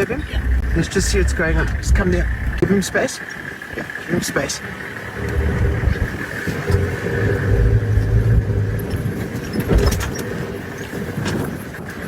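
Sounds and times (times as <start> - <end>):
vehicle engine idling: 0.0 - 11.8.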